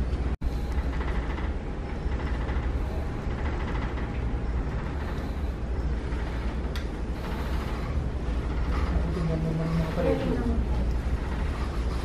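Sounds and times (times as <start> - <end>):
store background rumble and hiss: 0.0 - 12.0.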